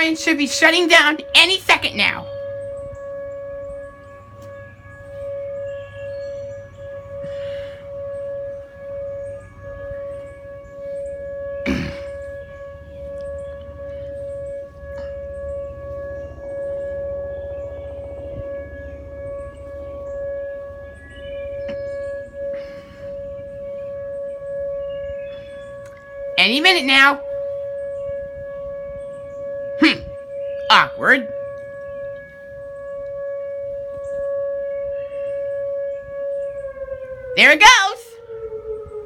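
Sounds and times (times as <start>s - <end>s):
tornado warning siren: 0.0s - 39.0s.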